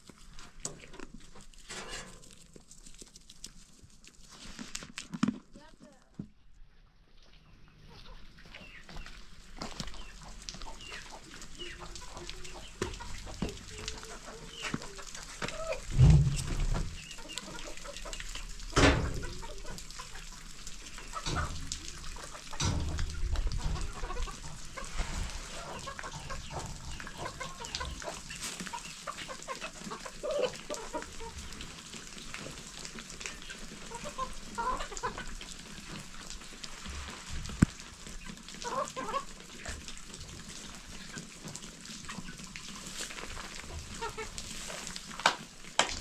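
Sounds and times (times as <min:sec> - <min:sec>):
chickens clucking: 0:07.3 - 0:36.9, 0:38.0 - 0:45.4.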